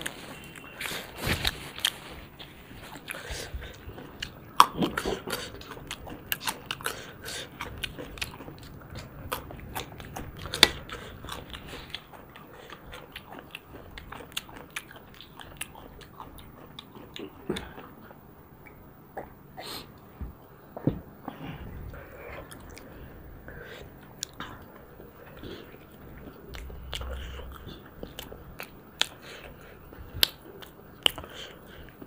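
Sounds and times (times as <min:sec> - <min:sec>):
people chewing and eating: 0:00.0 - 0:32.0.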